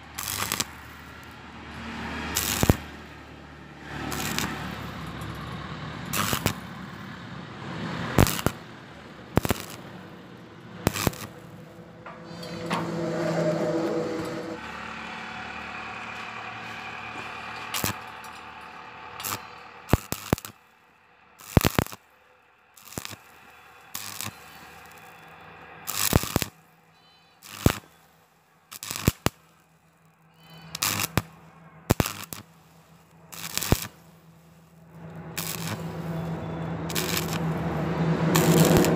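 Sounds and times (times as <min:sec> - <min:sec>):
welding arc crackling: 0:00.0 - 0:12.8, 0:14.1 - 0:20.8, 0:21.4 - 0:22.1, 0:22.7 - 0:26.8, 0:27.4 - 0:29.6, 0:30.2 - 0:38.9.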